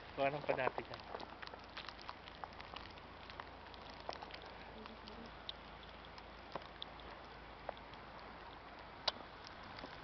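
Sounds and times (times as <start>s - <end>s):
soft ticks and crackles: 0.0s - 10.0s
steady low hiss: 0.0s - 10.0s.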